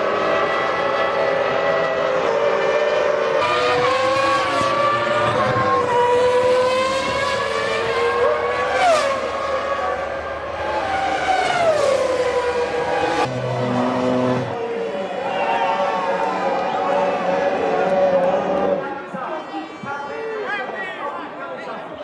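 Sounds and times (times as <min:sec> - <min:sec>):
racing car engine at high revs: 0:00.0 - 0:18.8.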